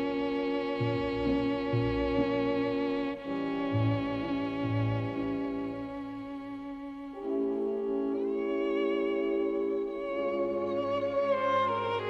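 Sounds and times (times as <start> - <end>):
bowed strings with vibrato: 0.0 - 12.0.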